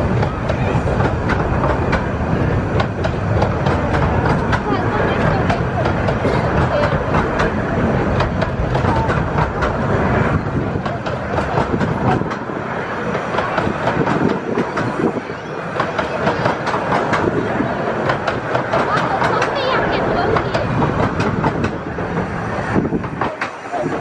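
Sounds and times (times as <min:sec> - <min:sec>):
rumble of wheels on rail: 0:00.0 - 0:24.0
wheels clicking over rail joints: 0:00.0 - 0:24.0.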